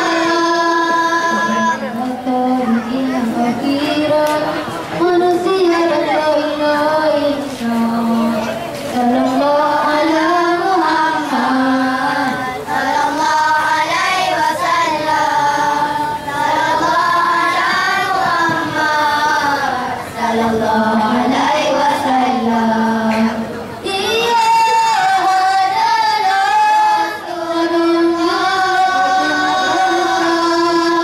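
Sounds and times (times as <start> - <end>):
boys singing into microphones: 0.0 - 31.0.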